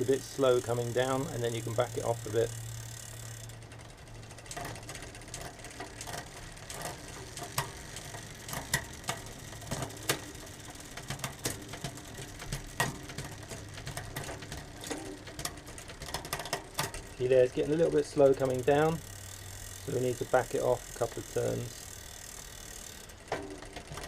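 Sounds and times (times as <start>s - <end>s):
bicycle chain running: 0.0s - 24.0s.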